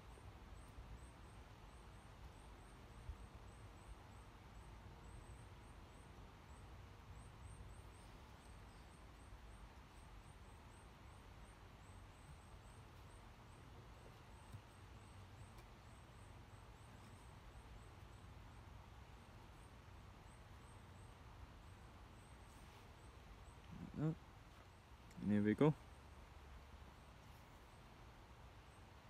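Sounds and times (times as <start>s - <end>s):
faint low outdoor rumble: 0.0s - 29.0s.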